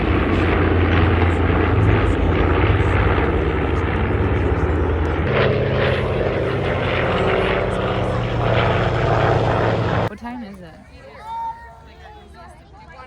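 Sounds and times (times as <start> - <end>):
propeller airplane engine: 0.0 - 10.5.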